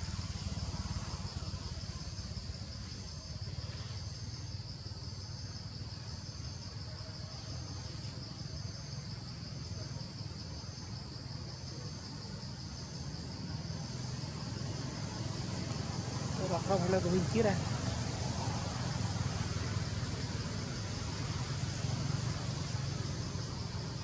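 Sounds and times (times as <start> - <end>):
insect chorus: 0.0 - 24.0.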